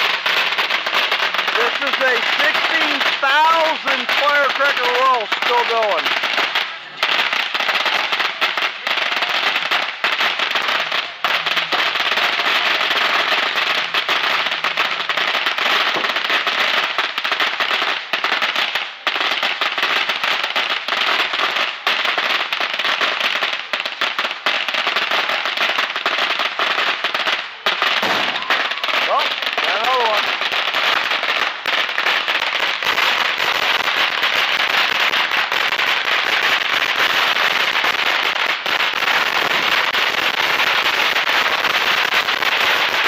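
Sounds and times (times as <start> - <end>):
fireworks crackling and popping: 0.0 - 43.0.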